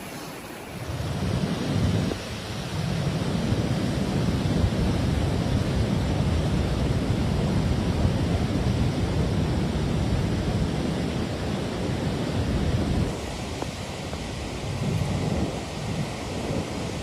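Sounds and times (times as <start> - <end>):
storm roar with low rumble: 0.6 - 17.0.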